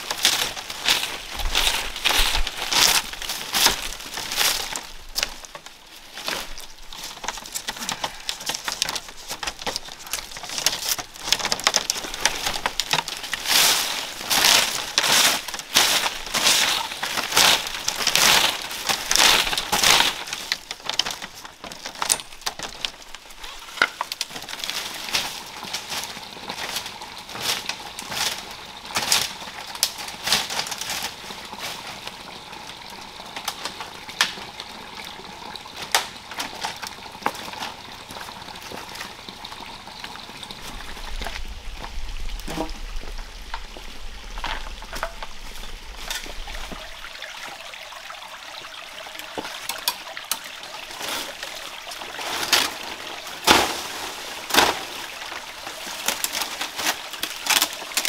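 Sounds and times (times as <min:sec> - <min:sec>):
leaves rustling: 0:00.0 - 0:58.0
running water: 0:00.0 - 0:58.0
water trickling into pool: 0:00.0 - 0:58.0.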